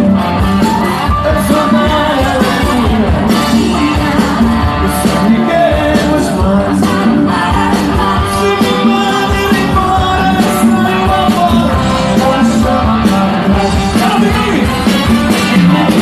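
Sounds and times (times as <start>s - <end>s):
live rock band playing: 0.0s - 16.0s
man singing: 0.0s - 16.0s
steady drum beat: 0.0s - 16.0s.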